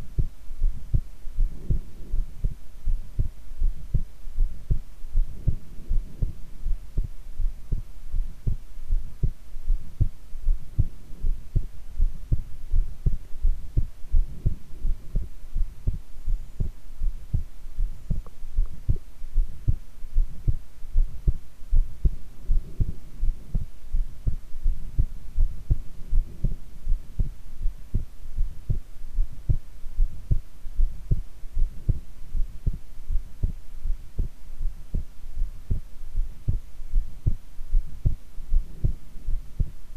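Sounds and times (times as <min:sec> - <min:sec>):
heartbeat thuds: 0:00.0 - 0:39.8
faint steady hum: 0:00.0 - 0:39.9.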